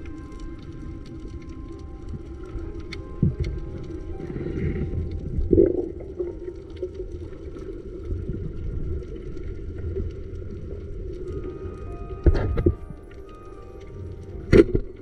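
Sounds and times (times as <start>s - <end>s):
faint clicks underwater: 0.0s - 15.0s
underwater water rumble: 0.0s - 15.0s.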